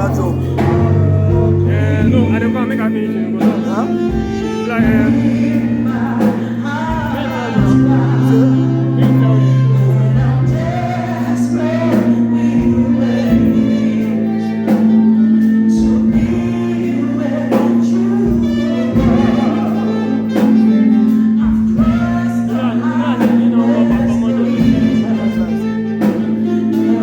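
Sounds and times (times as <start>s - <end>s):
held low chord accompaniment: 0.0s - 27.0s
person singing slow song: 0.0s - 27.0s.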